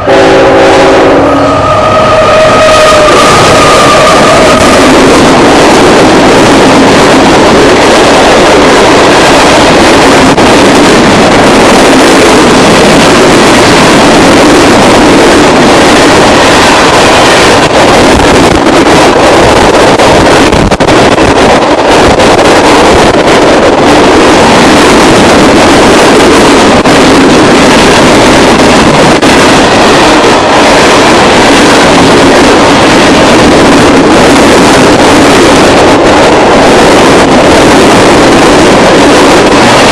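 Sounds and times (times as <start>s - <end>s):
freight train wheels rolling on rail: 0.0s - 39.9s
wind on microphone: 0.0s - 39.9s.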